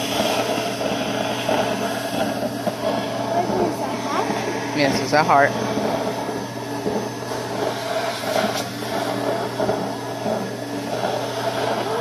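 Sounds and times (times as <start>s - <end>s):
stuffing machine blower humming: 0.0s - 12.0s.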